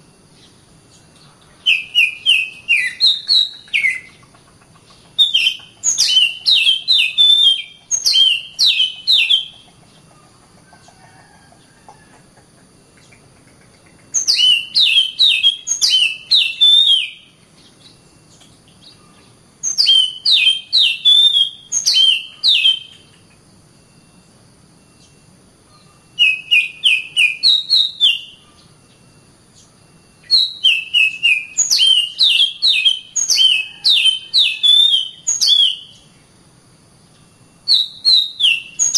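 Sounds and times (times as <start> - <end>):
bird singing whistled notes: 0.0 - 10.3, 14.0 - 36.3, 37.1 - 38.9.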